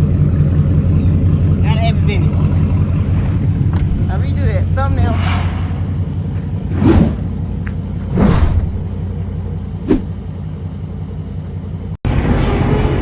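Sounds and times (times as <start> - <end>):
car engine idling rumble: 0.0 - 12.0
engine bursts: 0.0 - 13.0.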